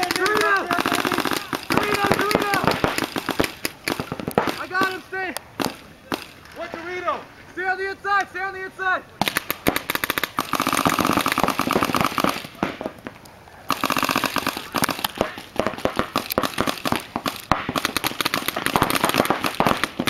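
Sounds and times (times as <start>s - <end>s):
paintball guns firing: 0.0s - 6.8s, 9.2s - 20.0s.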